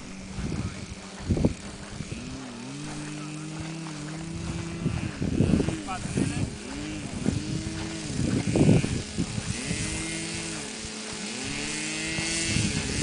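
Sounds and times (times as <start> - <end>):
model airplane motor buzzing: 0.0 - 13.0.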